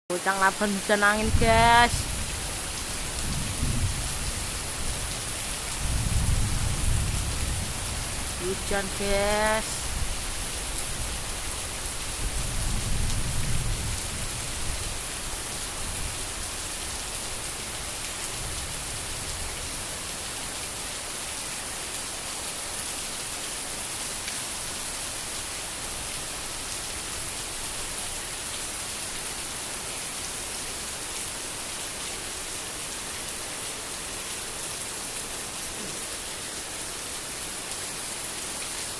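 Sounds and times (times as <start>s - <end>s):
heavy rain falling: 0.2s - 38.9s.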